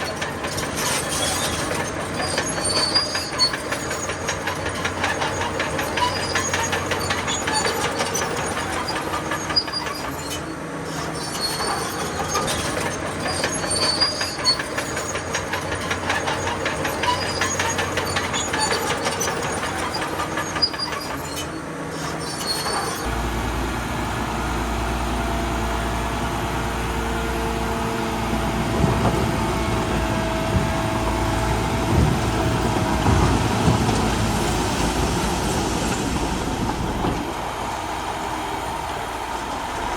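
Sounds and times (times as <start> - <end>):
bulldozer engine droning: 0.0 - 39.9
bulldozer tracks clanking and squealing: 0.0 - 39.9.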